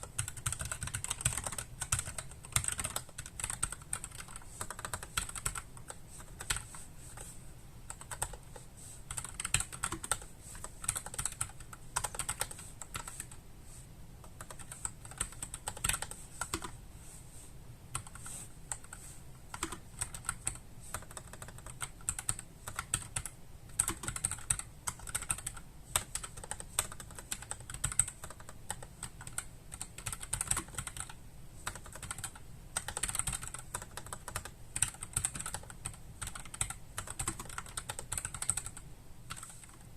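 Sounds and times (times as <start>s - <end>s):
mechanical keyboard typing: 0.0s - 6.8s, 7.9s - 13.4s, 14.3s - 16.8s, 17.9s - 39.8s.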